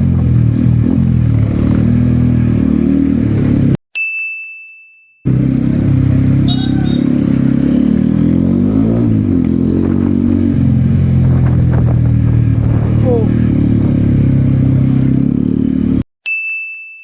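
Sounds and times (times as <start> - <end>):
motorcycle engine running at low speed: 0.0 - 3.8, 5.3 - 16.0.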